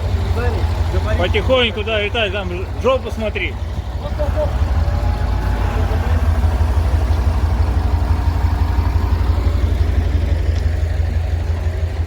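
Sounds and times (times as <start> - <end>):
diesel engine low pulsing rumble: 0.0 - 12.0.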